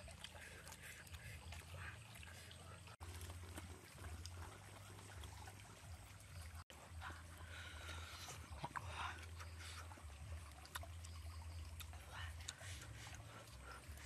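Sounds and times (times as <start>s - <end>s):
low steady hum: 0.0s - 14.0s
stream trickling: 0.0s - 14.0s.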